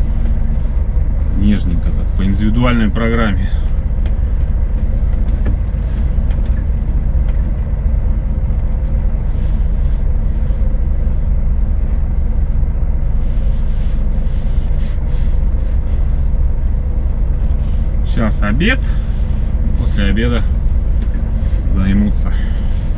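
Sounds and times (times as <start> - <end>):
diesel truck engine rumbling: 0.0 - 22.9.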